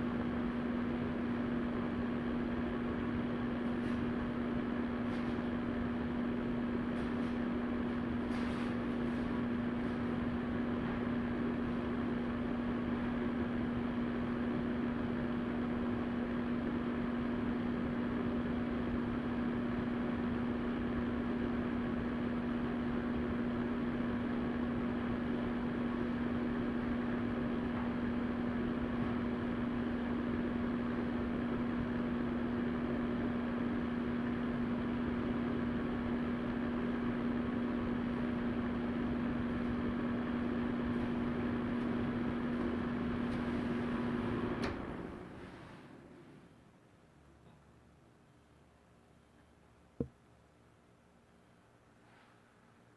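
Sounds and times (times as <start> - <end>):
fan heater blowing air: 0.0 - 52.9
fan hum: 0.0 - 52.9.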